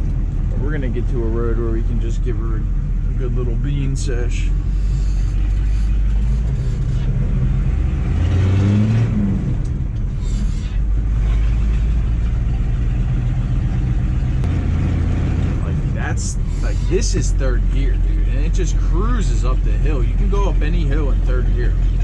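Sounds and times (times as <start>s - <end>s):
diesel truck accelerating: 0.0s - 22.0s.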